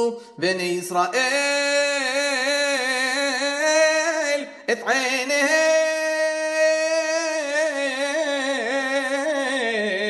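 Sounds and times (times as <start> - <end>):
person chanting: 0.0 - 10.0.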